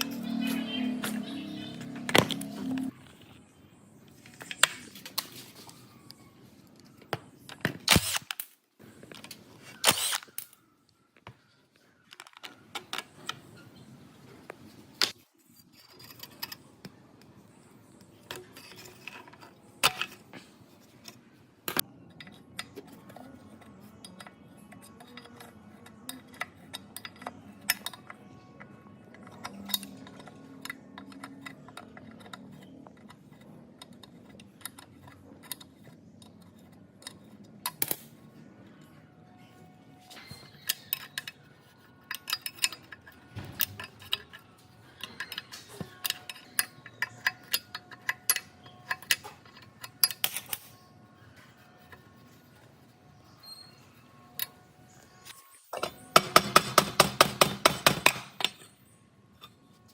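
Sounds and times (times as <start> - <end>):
hand tools and metal parts clicking: 0.0 - 59.9.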